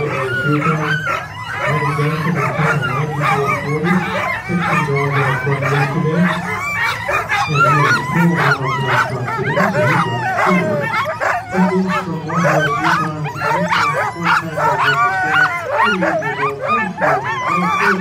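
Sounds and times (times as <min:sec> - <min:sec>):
sled dogs barking and yipping: 0:00.0 - 0:18.0.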